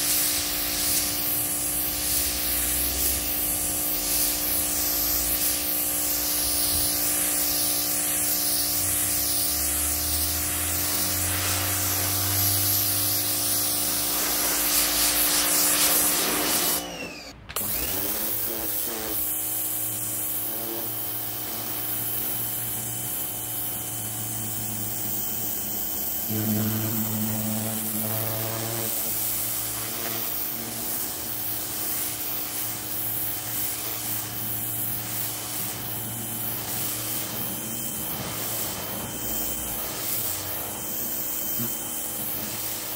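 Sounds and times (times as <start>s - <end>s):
pressure washer motor humming: 0.0s - 42.9s
water jet hissing on concrete: 0.0s - 42.9s.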